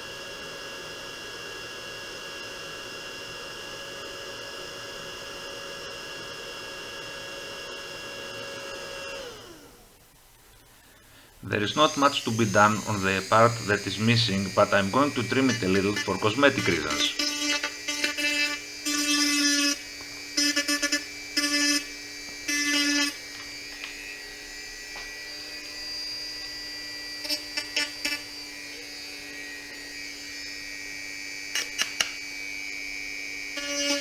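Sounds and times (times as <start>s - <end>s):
rotary tool motor whine: 0.0s - 9.9s, 10.9s - 34.0s.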